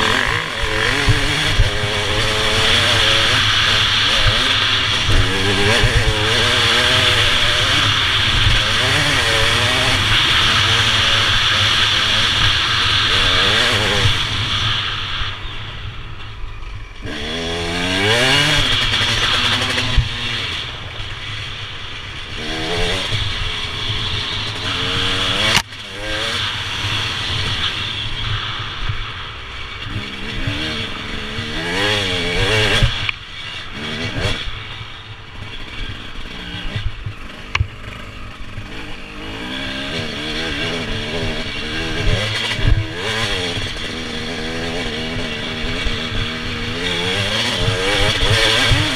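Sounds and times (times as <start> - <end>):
motorcycle engine revving: 0.0 - 48.9
steady rushing noise: 0.0 - 48.9.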